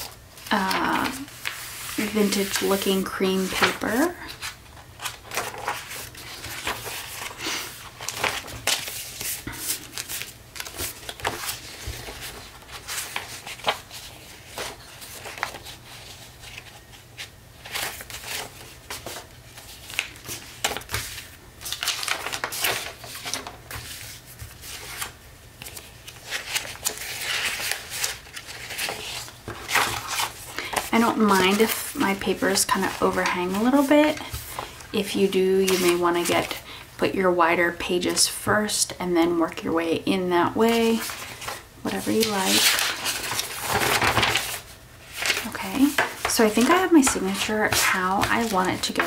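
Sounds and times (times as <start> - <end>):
paper sheets rustling: 0.0 - 36.6, 40.6 - 49.0.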